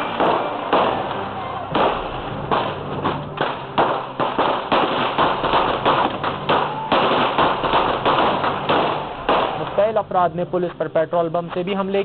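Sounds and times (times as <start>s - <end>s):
gunshots: 0.0s - 10.0s
steady noisy background: 0.0s - 12.0s.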